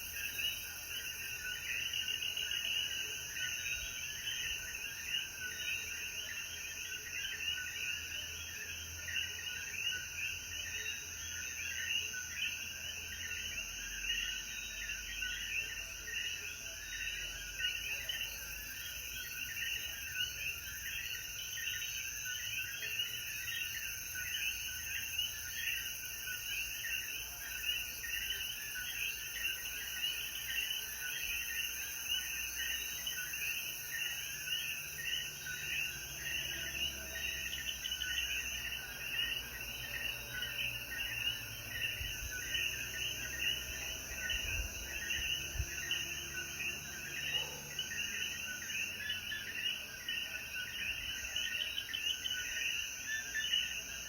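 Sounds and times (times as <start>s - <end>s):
frogs calling in chorus: 0.0s - 54.0s.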